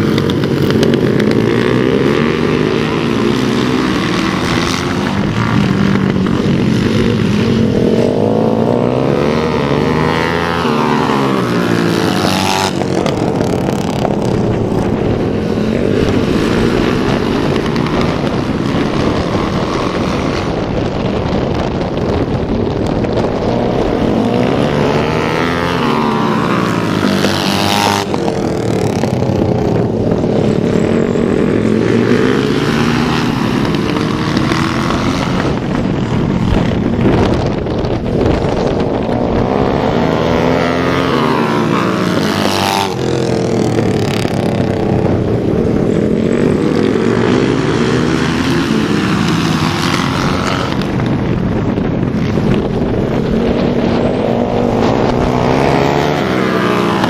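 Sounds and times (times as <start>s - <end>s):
motorcycle engines revving: 0.0s - 57.0s
motorcycles passing by: 0.0s - 57.0s.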